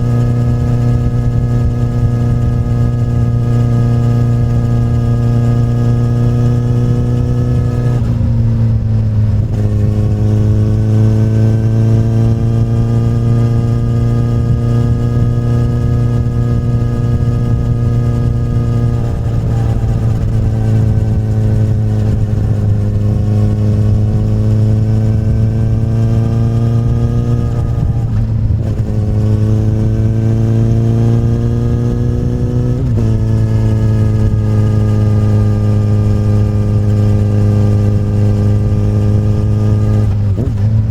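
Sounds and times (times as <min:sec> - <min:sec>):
motorcycle engine with gear changes: 0:00.0 - 0:40.9.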